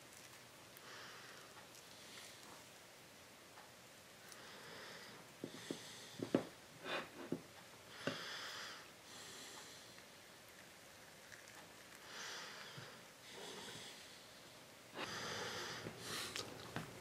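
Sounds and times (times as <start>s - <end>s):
soft hissy noise: 0.0s - 17.0s.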